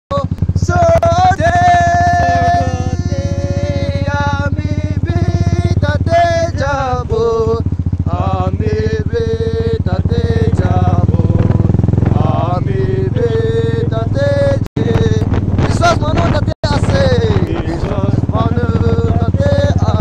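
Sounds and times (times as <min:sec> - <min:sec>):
motorcycle engine running: 0:00.1 - 0:20.0.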